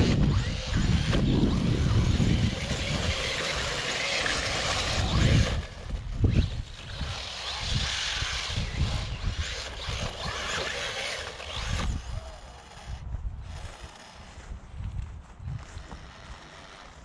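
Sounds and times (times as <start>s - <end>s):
wind buffeting microphone: 0.0s - 16.4s
electric motor whine: 0.0s - 17.0s.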